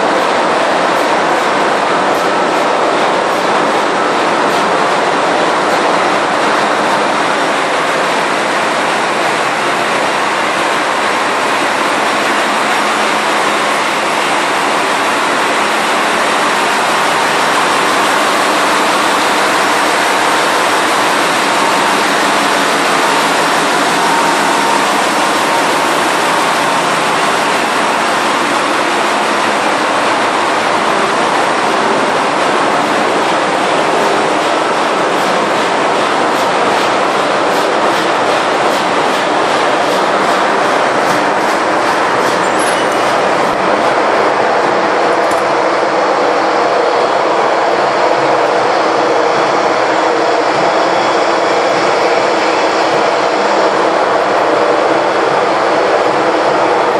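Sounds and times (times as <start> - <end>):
engine room machinery din: 0.0 - 56.9.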